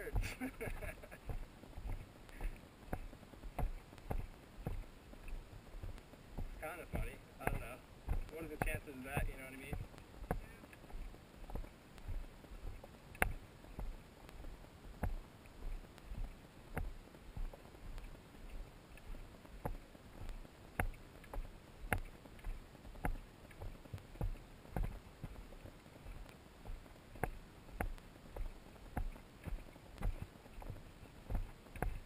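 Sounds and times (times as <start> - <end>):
footsteps on dirt trail: 0.0 - 32.0.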